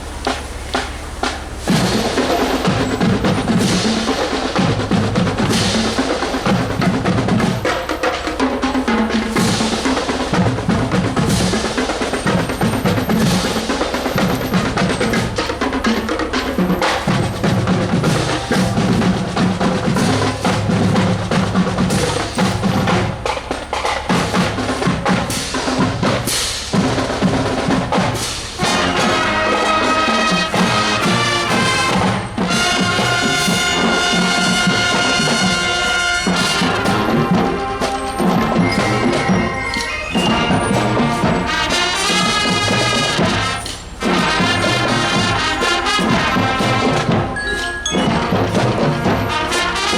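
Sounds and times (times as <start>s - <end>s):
horns playing held chords: 0.0s - 49.9s
snare and bass drums cadence: 0.0s - 49.9s.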